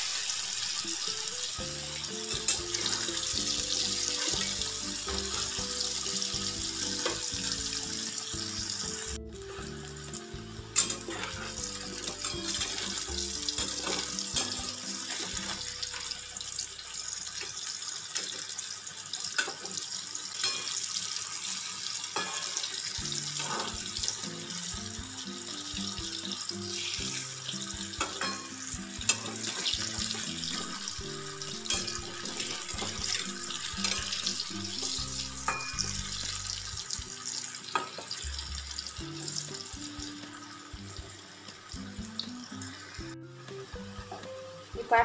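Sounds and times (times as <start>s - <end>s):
food frying in hot oil: 0.0s - 45.0s.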